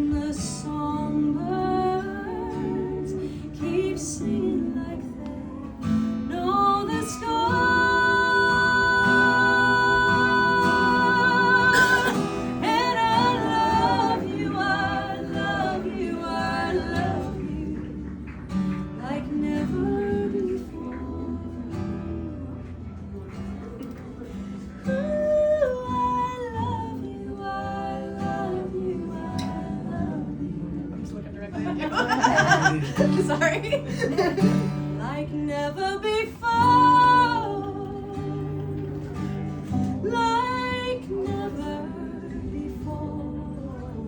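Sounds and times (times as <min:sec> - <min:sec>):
woman singing folk song: 0:00.0 - 0:23.3, 0:24.3 - 0:44.0
acoustic guitar: 0:00.0 - 0:44.0.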